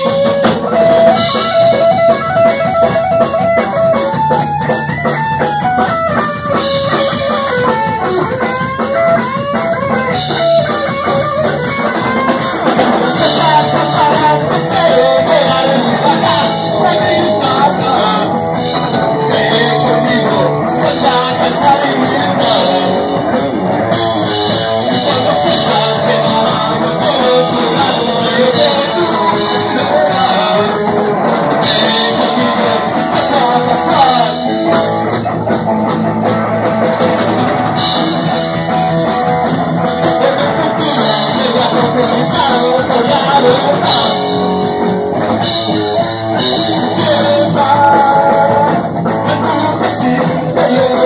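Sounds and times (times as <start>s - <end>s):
drum kit: 0.0s - 51.0s
electric guitar melody: 0.0s - 51.0s
person singing: 6.6s - 35.4s, 37.4s - 51.0s.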